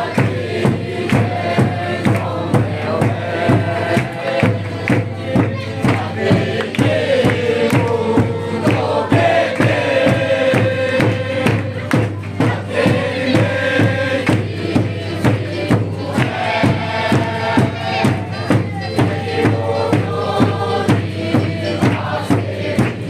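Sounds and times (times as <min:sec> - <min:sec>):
group singing or chanting: 0:00.0 - 0:23.0
steady drum beat: 0:00.0 - 0:23.0.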